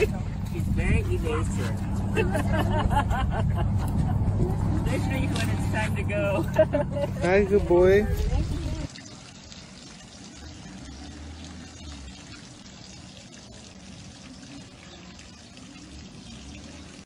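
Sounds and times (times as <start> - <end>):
water running from a hose: 0.0 - 17.0.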